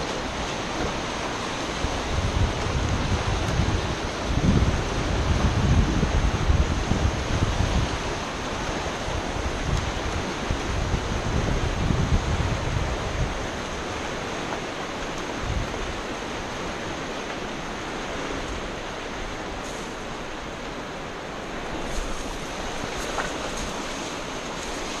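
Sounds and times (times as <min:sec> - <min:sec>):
river rushing over rapids: 0:00.0 - 0:25.0
wind rumble on microphone: 0:00.0 - 0:25.0.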